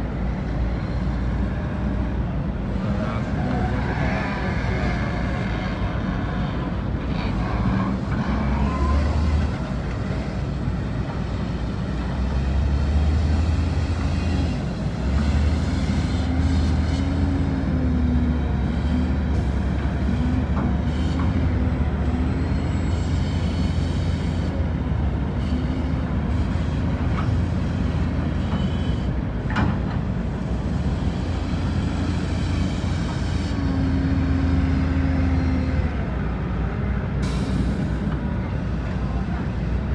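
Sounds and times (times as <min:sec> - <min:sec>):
heavy diesel engines: 0:00.0 - 0:39.9.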